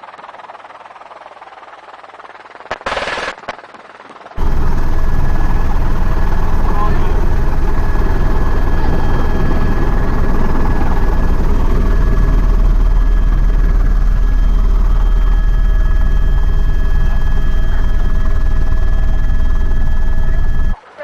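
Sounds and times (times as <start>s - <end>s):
helicopter rotor and engine noise: 0.0s - 21.0s
high turbine whine: 2.7s - 20.8s.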